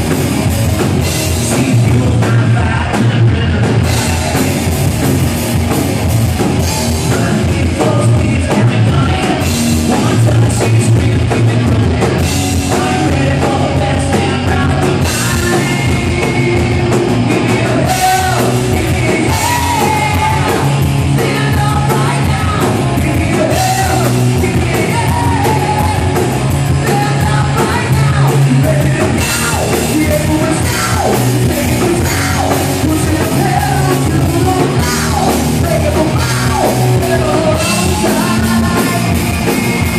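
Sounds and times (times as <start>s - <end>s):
rock band playing: 0.0s - 39.9s
person singing and yelling: 6.4s - 39.9s.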